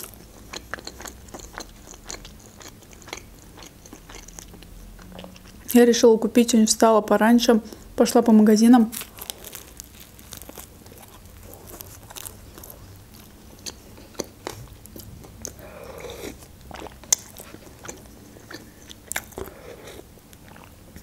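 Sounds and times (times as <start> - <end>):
biting and chewing bread: 0.0 - 5.8, 8.9 - 21.0.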